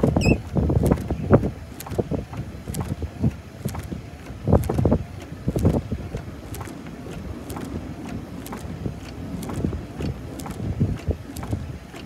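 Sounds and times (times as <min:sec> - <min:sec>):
light ticks: 0:00.0 - 0:12.0
wind buffeting microphone: 0:00.0 - 0:12.0.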